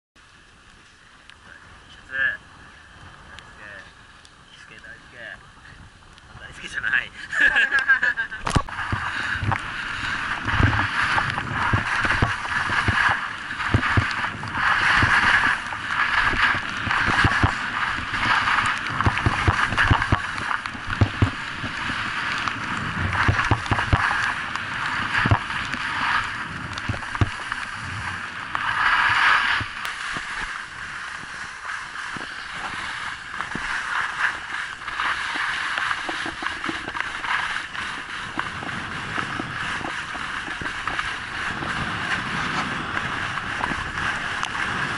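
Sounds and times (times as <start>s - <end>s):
skis scraping on snow: 0.2s - 44.9s
wind buffeting microphone: 1.5s - 44.9s.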